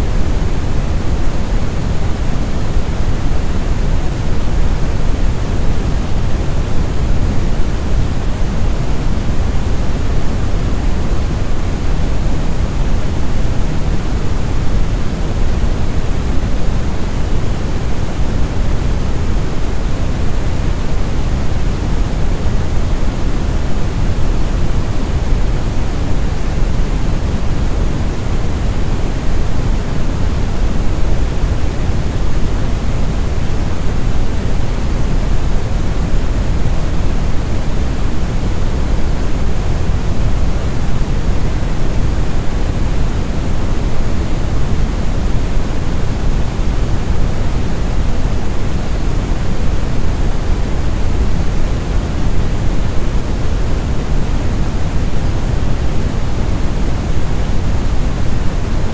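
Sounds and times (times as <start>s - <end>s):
brown noise rumbling hiss: 0.0s - 58.9s.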